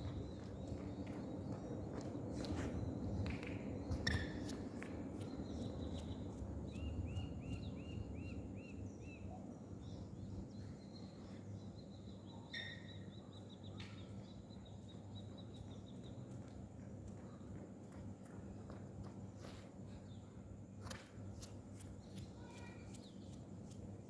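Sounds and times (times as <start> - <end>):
bird song: 0.0 - 17.6, 21.4 - 24.0.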